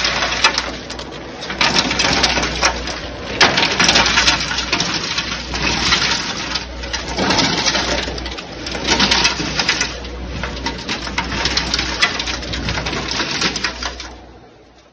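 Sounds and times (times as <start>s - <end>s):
crawfish clattering on metal table: 0.0s - 14.3s
steady low hum: 0.0s - 14.9s.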